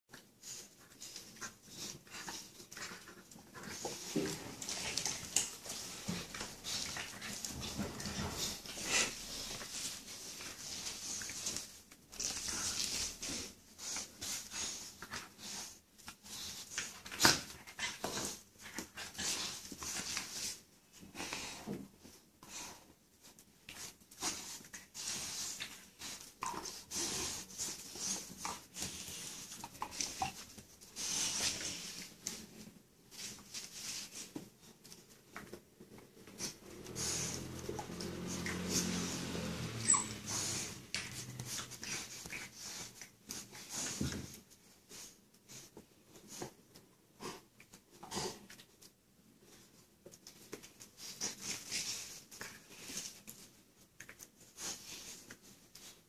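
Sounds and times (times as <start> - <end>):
animals snuffling and breathing: 0.1 - 56.0.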